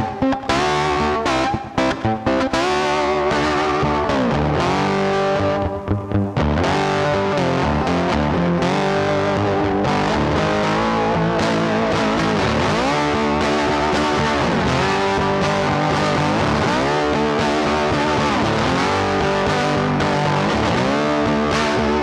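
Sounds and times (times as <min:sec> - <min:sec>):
rock music with distorted guitar: 0:00.0 - 0:22.0.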